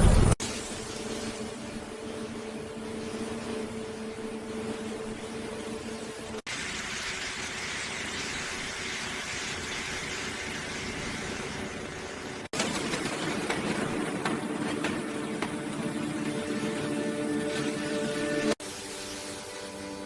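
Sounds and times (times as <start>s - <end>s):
machinery hissing: 0.0s - 20.0s
steady machine hum: 0.0s - 20.0s.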